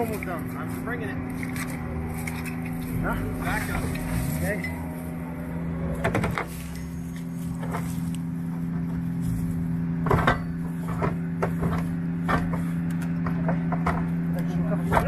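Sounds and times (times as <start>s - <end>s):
hands and tools digging earth: 0.0s - 15.0s
steady low hum: 0.0s - 15.0s.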